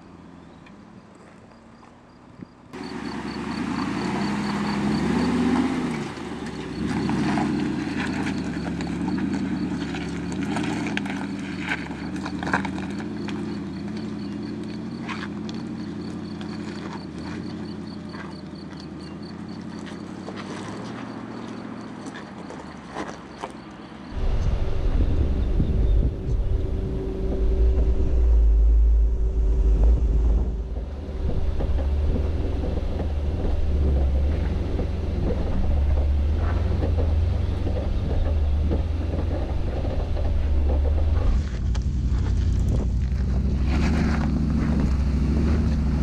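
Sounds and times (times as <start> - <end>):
engine working at low speed: 2.7 - 20.2, 24.1 - 46.0
stones crunching under tyres: 2.8 - 28.5, 29.6 - 46.0.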